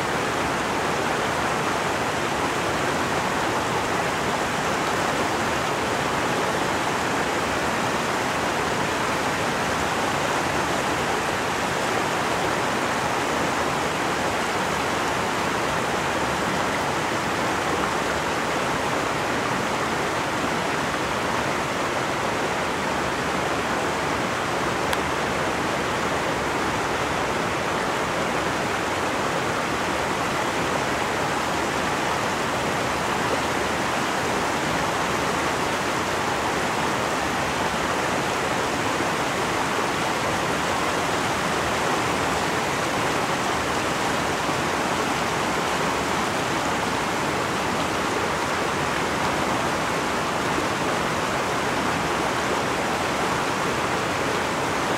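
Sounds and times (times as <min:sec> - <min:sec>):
stream rushing: 0:00.0 - 0:54.9.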